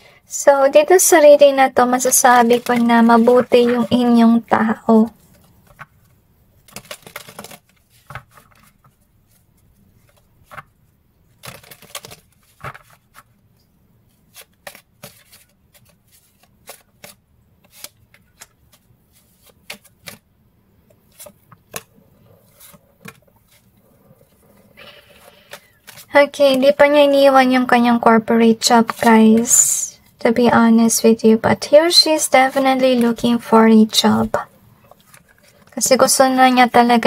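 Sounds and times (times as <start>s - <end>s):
cards being shuffled by hand: 0.9s - 29.8s, 32.0s - 36.9s.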